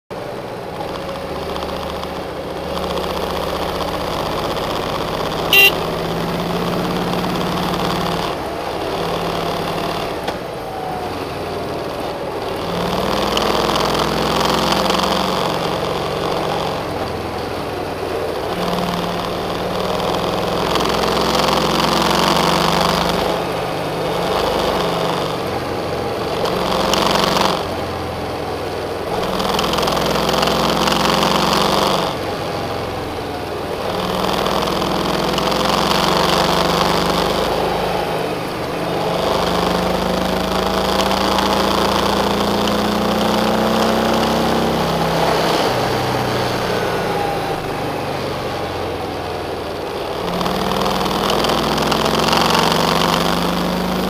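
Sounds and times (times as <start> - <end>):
tyre road noise: 0.1 - 54.0
car engine from inside cabin: 0.2 - 23.3, 24.3 - 54.0.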